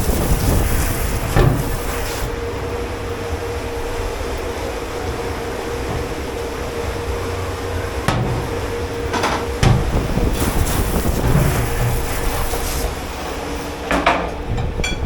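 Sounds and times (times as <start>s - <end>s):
high hiss: 0.0s - 13.8s
kitchen machinery humming: 0.0s - 15.0s.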